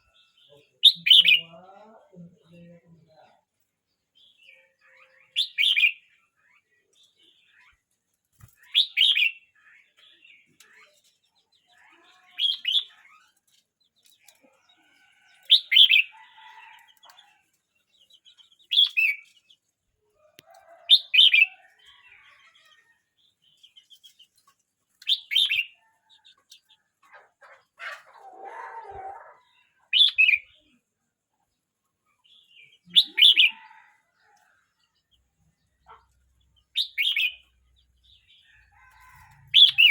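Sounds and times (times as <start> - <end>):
bird singing bright phrases: 0.0 - 2.3, 3.9 - 16.7, 17.7 - 19.7, 20.7 - 26.9, 28.2 - 30.8, 32.1 - 33.8, 35.1 - 39.9.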